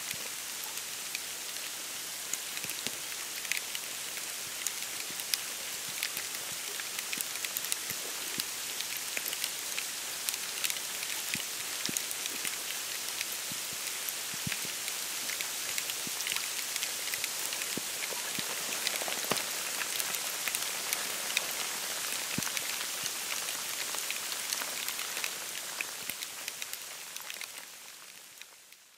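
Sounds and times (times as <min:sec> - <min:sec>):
snow pattering on reeds: 0:00.9 - 0:28.7.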